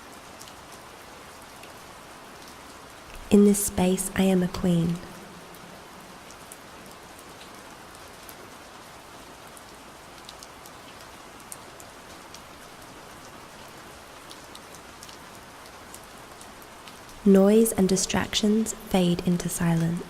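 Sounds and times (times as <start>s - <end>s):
gentle rain hiss: 0.0s - 20.0s.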